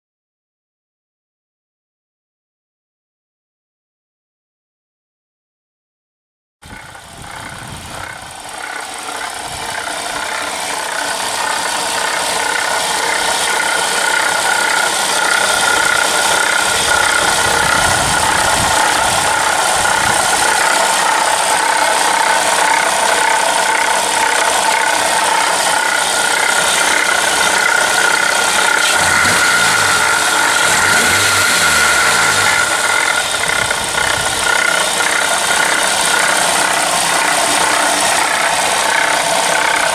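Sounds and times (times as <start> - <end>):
car engine whine and hiss: 6.8 - 39.9.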